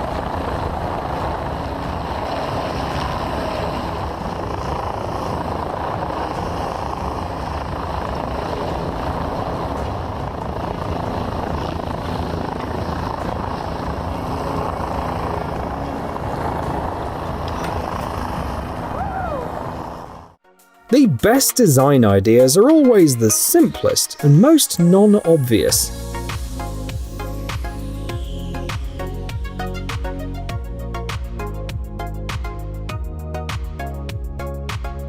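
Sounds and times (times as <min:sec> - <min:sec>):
helicopter overhead: 0:00.0 - 0:20.4, 0:21.2 - 0:35.0.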